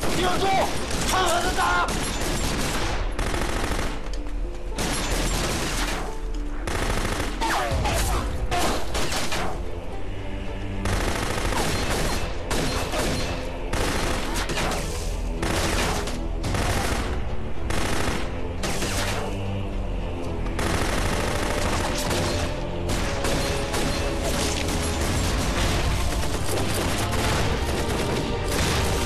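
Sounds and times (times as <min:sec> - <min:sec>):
guns firing in volleys: 0:00.0 - 0:09.6, 0:10.8 - 0:19.4, 0:20.5 - 0:29.0.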